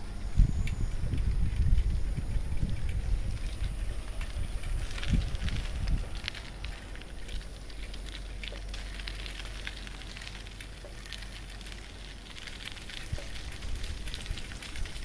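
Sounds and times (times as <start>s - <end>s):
breeze rustling tree leaves: 0.0s - 15.0s
low wind rumble on microphone: 0.0s - 15.0s.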